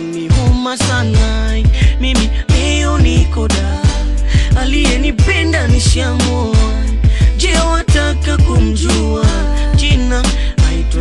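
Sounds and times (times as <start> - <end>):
deep bass: 0.0 - 11.0
man singing: 0.0 - 11.0
low kick drums: 0.2 - 11.0.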